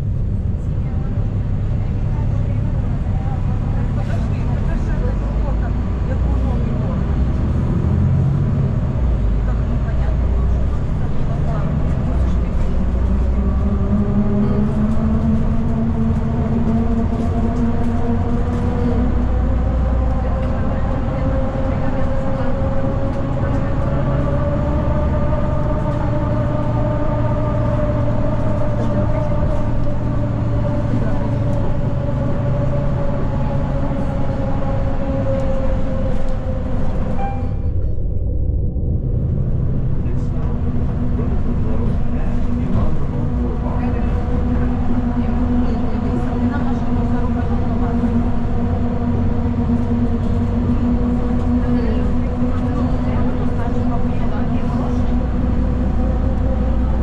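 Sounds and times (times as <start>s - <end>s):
bus engine and drivetrain hum: 0.0s - 57.0s.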